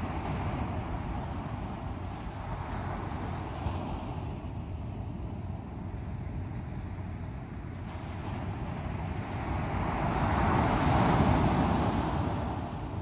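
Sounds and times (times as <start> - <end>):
ocean surf rumble: 0.0 - 13.0.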